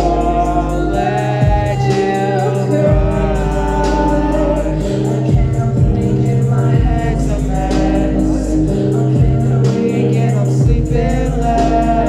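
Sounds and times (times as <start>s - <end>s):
electronic backing with deep bass: 0.0s - 12.0s
steady ticking beat: 0.0s - 12.0s
woman singing into a microphone: 0.0s - 12.0s.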